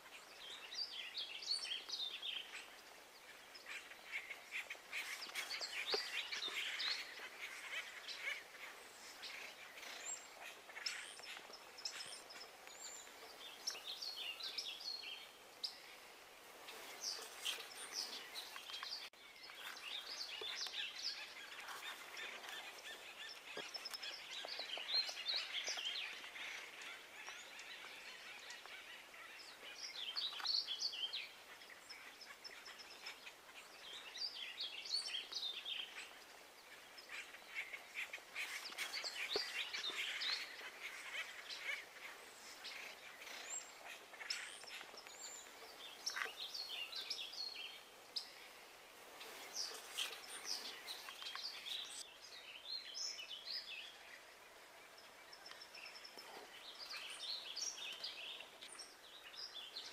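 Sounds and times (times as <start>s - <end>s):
faint outdoor background: 0.0s - 59.9s
small birds chirping: 0.0s - 59.9s.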